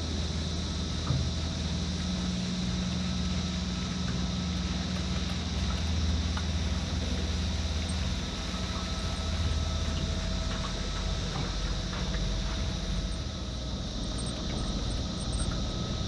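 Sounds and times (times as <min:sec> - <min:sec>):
motorboat engine humming: 0:00.0 - 0:16.0.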